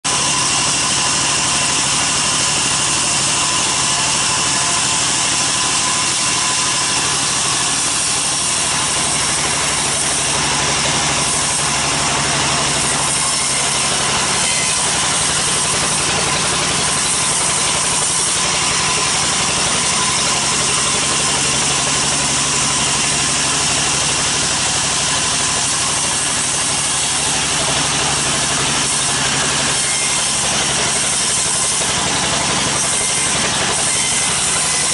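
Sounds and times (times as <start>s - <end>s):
band saw cutting log: 0.0s - 34.9s.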